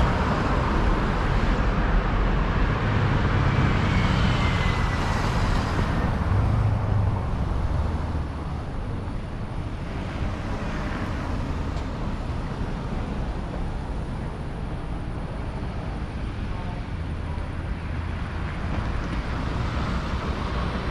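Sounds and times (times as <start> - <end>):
passing cars rumble: 0.0 - 20.9.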